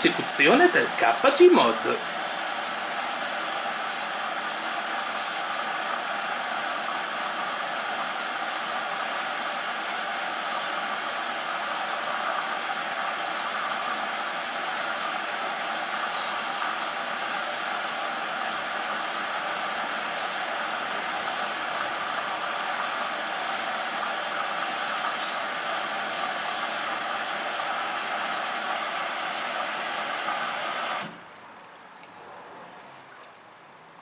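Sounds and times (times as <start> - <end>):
washing machine filling with water: 0.0 - 31.3.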